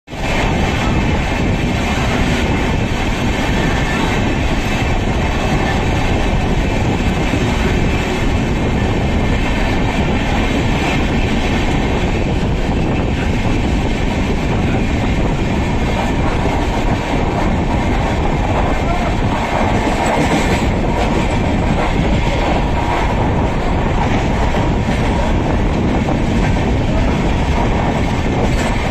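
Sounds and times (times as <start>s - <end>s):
train wheels rushing on rails: 0.1s - 28.9s.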